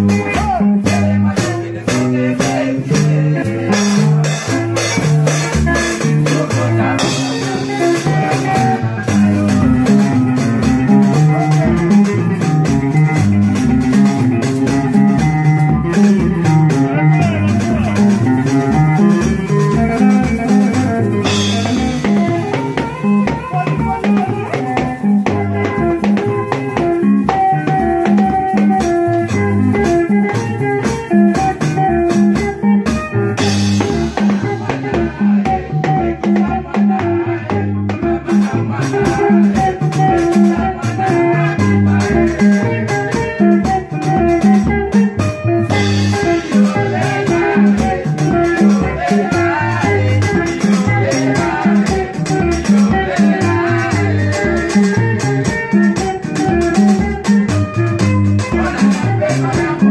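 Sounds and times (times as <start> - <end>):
band music with guitar and drums: 0.0 - 59.9.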